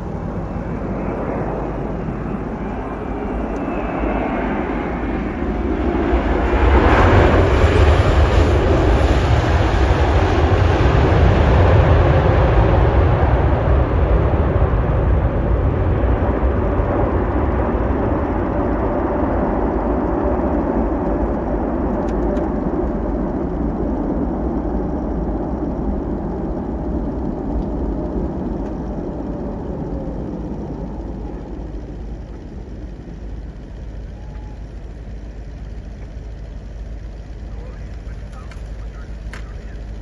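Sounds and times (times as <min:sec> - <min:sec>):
jet engines rushing with whine: 0:00.0 - 0:40.0.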